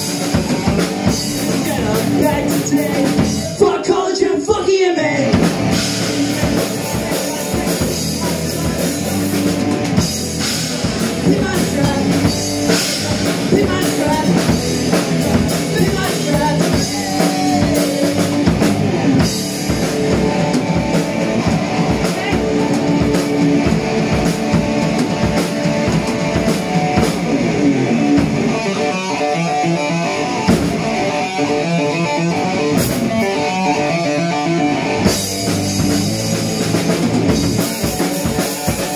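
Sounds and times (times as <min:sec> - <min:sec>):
drum kit: 0:00.0 - 0:04.0, 0:05.2 - 0:38.9
electric guitars: 0:00.0 - 0:38.9.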